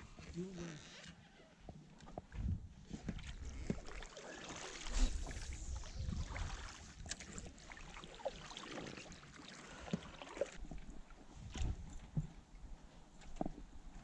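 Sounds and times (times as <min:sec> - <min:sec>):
oars swishing through water: 0:00.0 - 0:13.9.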